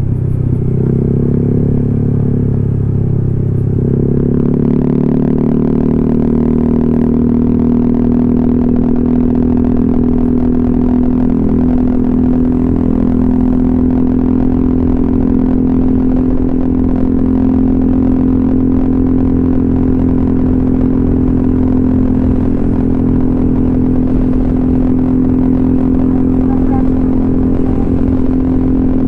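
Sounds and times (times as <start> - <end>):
scooter engine droning: 0.0 - 29.0.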